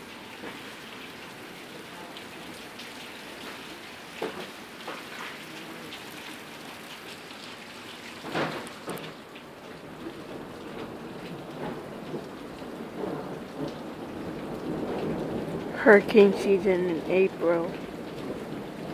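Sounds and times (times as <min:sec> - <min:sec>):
heavy rain on pavement and cars: 0:00.0 - 0:18.9.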